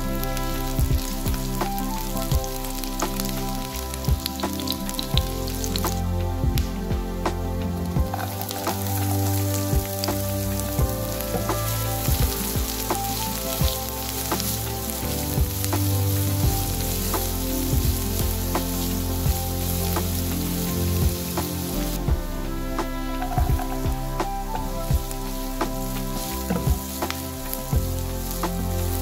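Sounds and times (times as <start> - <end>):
onion sizzling in a pan: 0.0 - 29.0.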